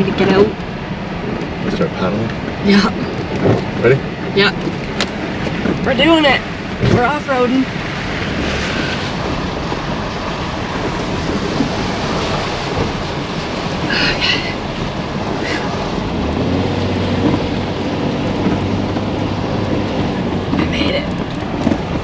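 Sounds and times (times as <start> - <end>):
engine hum: 0.0 - 22.0
tyres churning through water and gravel: 0.0 - 22.0.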